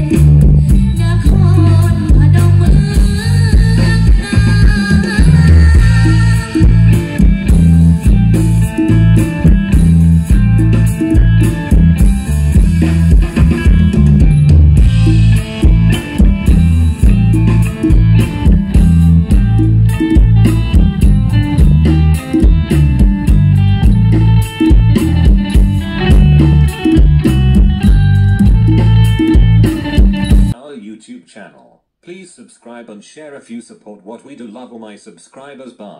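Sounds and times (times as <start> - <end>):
drum kit beat: 0.0 - 30.6
electric bass: 0.0 - 30.6
electric guitar: 0.0 - 30.6
folk melody instruments: 0.0 - 30.6.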